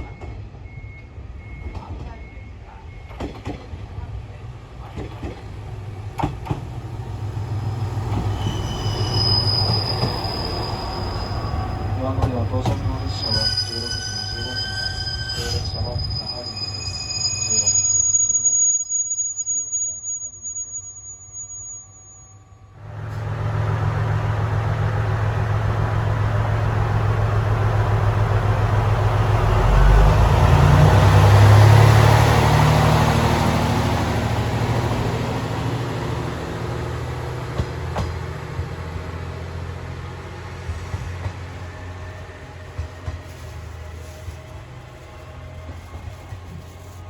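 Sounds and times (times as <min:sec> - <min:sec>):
rail noise: 0:00.0 - 0:47.0
railcar engine drone: 0:00.0 - 0:47.0.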